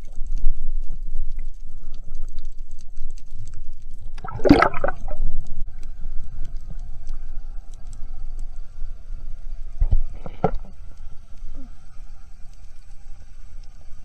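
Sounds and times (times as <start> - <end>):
underwater rumble and rush: 0.0 - 14.0.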